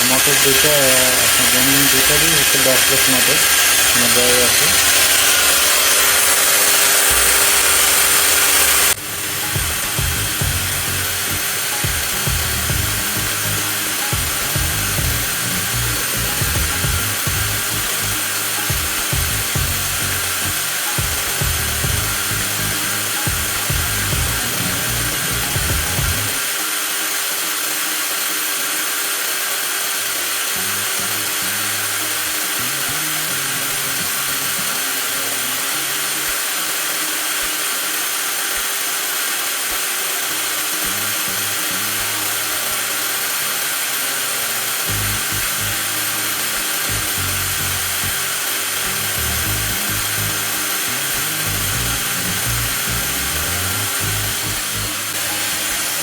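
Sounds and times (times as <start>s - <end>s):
angle grinder whining: 0.0s - 56.0s.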